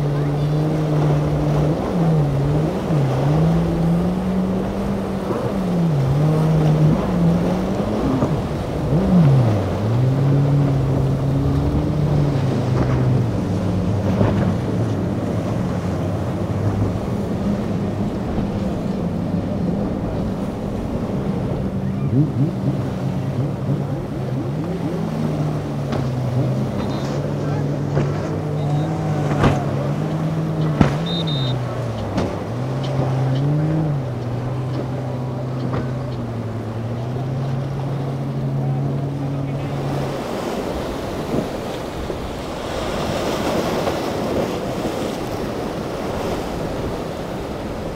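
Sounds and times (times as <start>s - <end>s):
outboard engines running: 0.0s - 47.9s
water splashing: 0.0s - 47.9s.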